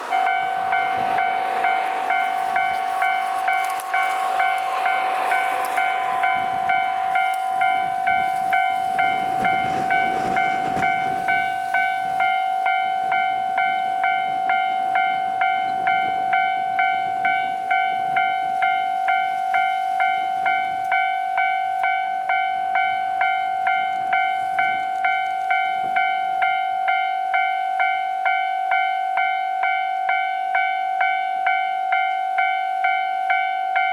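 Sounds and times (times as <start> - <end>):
diesel train passing: 0.0 - 33.9.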